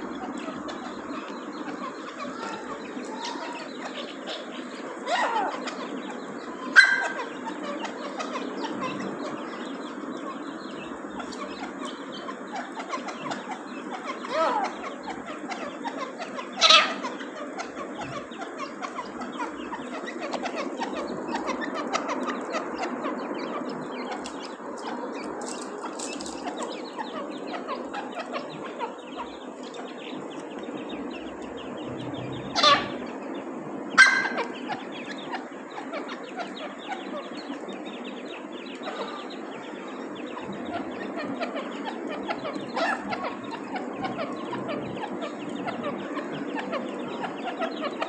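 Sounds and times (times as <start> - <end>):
chicks cheeping: 0.0 - 48.0
louder bird calls: 0.0 - 48.0.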